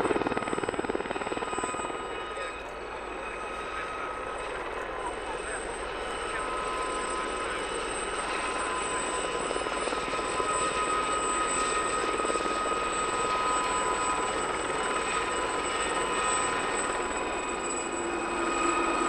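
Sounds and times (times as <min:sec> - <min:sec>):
helicopter rotor and turbine rushing: 0:00.0 - 0:19.0
high turbine whine: 0:00.0 - 0:19.0.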